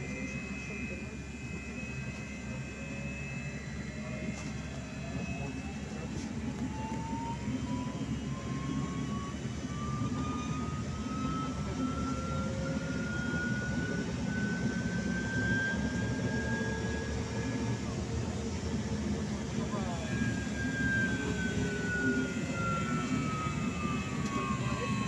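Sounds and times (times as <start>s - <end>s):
electric motor whine: 0.0s - 25.0s
trolleybus ride rumble: 0.0s - 25.0s.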